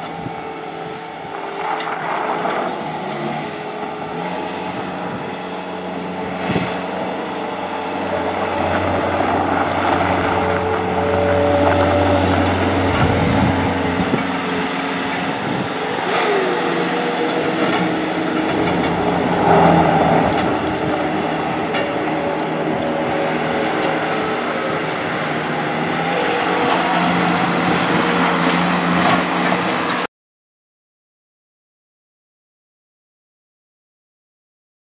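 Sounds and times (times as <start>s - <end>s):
skid steer diesel engine running: 0.0s - 30.1s.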